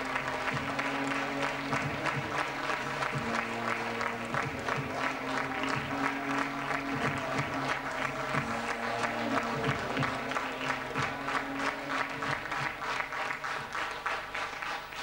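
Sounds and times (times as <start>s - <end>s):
audience applauding: 0.0s - 15.0s
background music: 0.0s - 15.0s.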